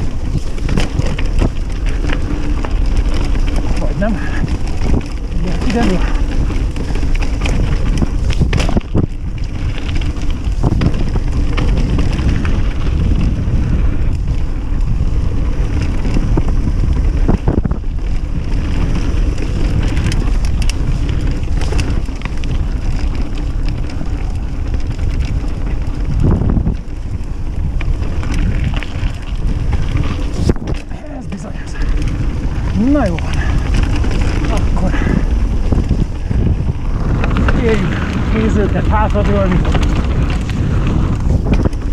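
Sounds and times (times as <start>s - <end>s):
bike knocking on bumps: 0.0s - 41.9s
bike rolling and rattling: 0.0s - 41.9s
wind rushing over microphone: 0.0s - 41.9s.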